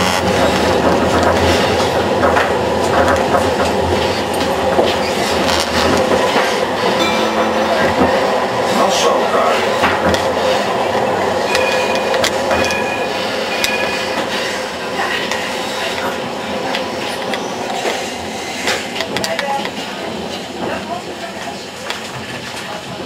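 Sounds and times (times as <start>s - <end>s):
tram rumble and rattle: 0.0s - 23.0s.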